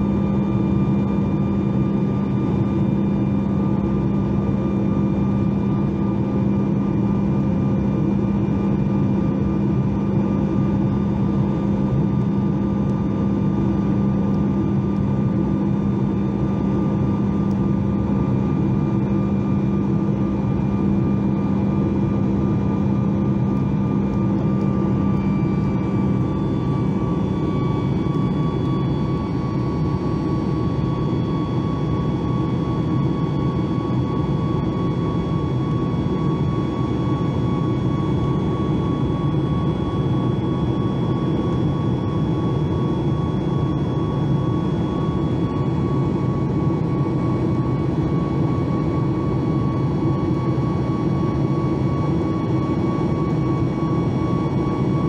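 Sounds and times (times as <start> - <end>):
jet engine hum and whine: 0.0 - 55.0.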